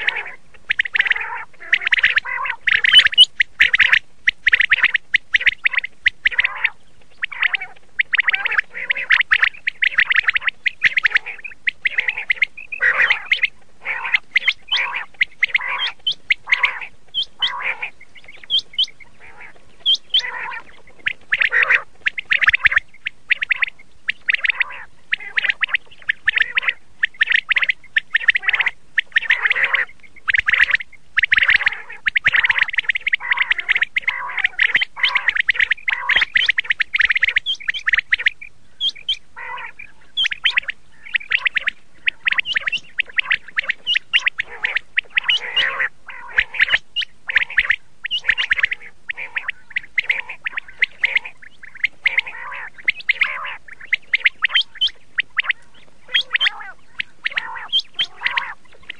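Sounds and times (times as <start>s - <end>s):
high chirps: 0.0s - 58.9s
quail calling: 0.0s - 58.9s.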